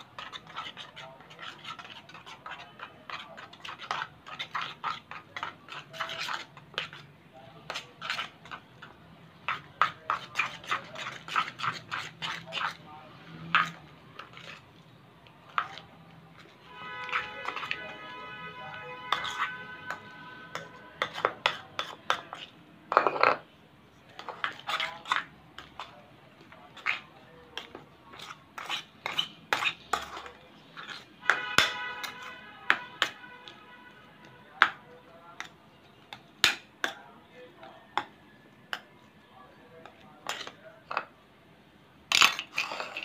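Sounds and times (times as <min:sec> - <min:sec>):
spoon scraping bowl: 0:00.0 - 0:23.4, 0:24.0 - 0:37.0, 0:39.7 - 0:41.1, 0:42.1 - 0:43.0.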